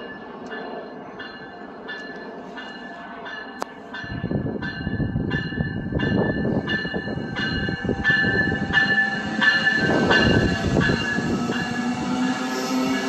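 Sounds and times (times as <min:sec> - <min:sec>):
passenger train low rumble: 0:00.0 - 0:13.0.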